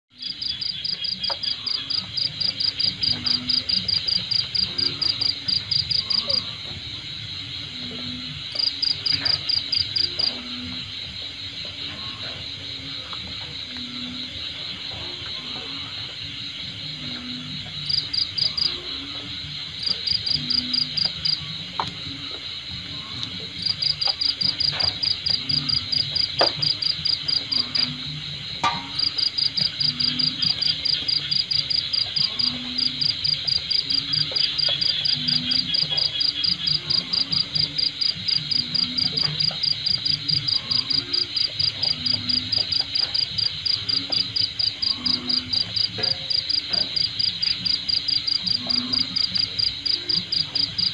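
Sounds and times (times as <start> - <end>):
high insect drone: 0.1 - 50.9
insects chirping fast: 0.1 - 50.9.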